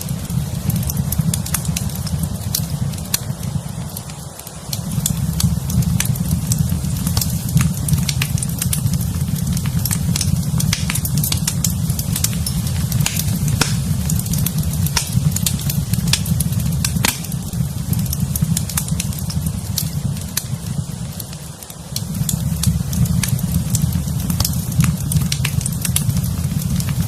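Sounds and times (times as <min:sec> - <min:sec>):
fire crackling and popping: 0:00.0 - 0:27.0.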